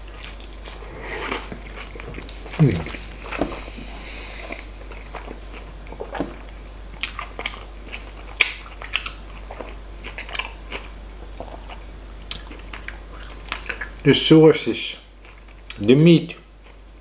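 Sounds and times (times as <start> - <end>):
person chewing: 0.0 - 14.0, 15.2 - 16.8.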